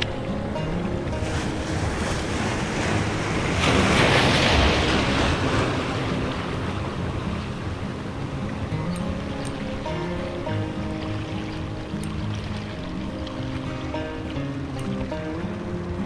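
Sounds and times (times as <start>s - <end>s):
sea waves washing over rocks: 0.0s - 16.0s
wind buffeting microphone: 0.0s - 16.0s.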